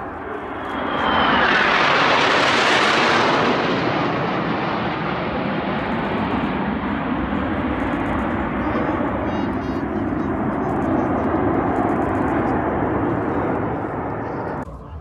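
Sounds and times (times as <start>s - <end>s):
jets flying past: 0.0s - 14.7s.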